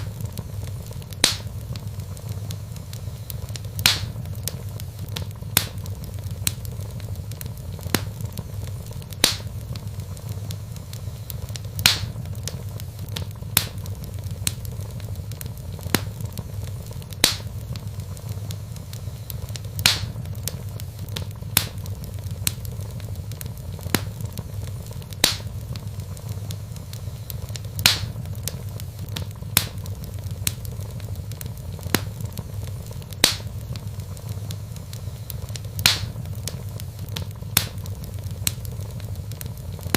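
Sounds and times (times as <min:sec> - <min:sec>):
fire crackling and popping: 0:00.0 - 0:39.9
low rumble of fire: 0:00.0 - 0:39.9.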